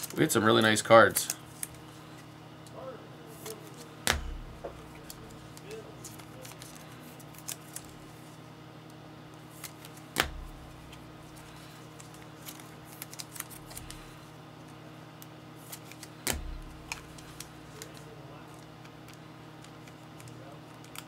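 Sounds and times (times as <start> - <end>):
trading cards clicking and rustling: 0.0 - 2.3, 3.3 - 8.4, 9.4 - 21.0.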